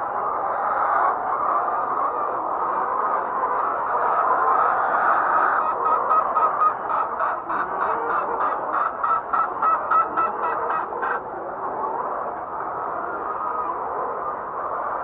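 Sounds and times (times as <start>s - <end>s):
hens clamouring: 0.0s - 15.0s.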